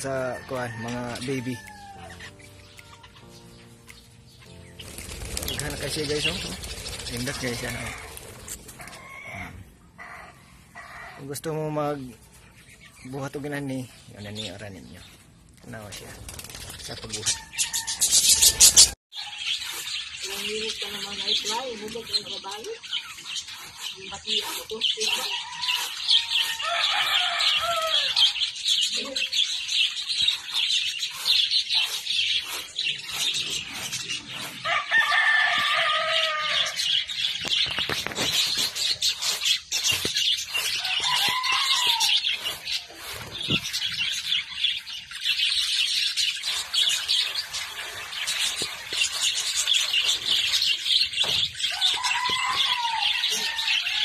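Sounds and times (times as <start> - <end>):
birds chattering: 0.0 - 54.0.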